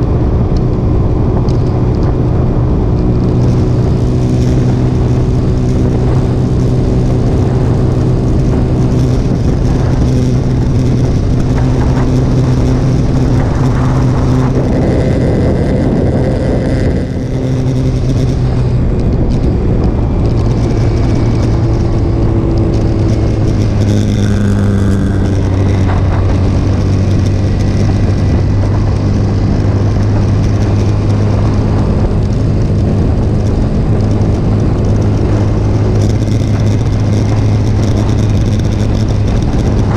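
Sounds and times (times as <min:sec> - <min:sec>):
heavy wind rush: 0:00.0 - 0:39.9
motorcycle engine running: 0:00.0 - 0:39.9.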